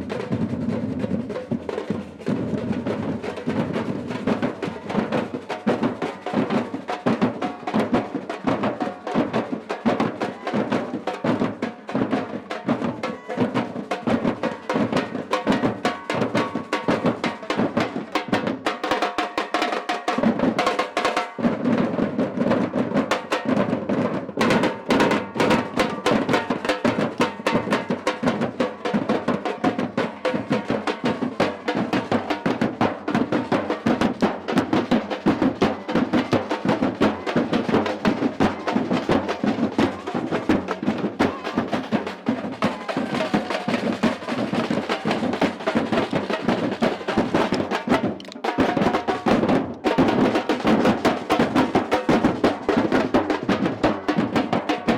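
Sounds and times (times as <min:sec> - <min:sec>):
samba percussion drumming: 0:00.0 - 0:54.9.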